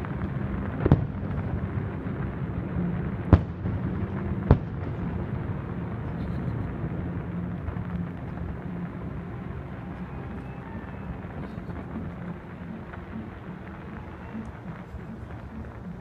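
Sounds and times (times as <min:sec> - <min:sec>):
distant firework bangs: 0:00.0 - 0:16.0
steady low rumble: 0:00.0 - 0:16.0.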